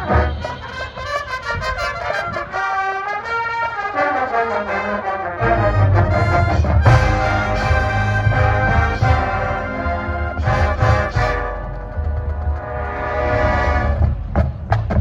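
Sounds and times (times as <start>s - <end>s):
heavy low brass: 0.0s - 15.0s
marching band brass chords: 0.0s - 15.0s.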